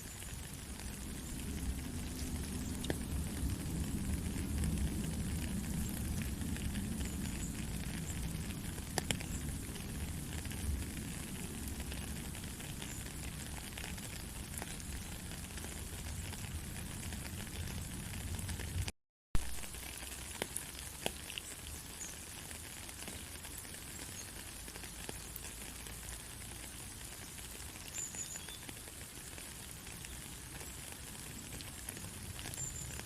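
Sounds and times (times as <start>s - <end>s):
raindrop ticks: 0.0s - 33.0s
steady rain falling: 0.0s - 33.0s.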